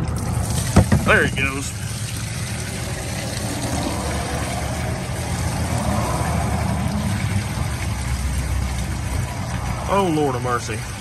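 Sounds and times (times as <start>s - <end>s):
continuous low rumble: 0.0s - 11.0s.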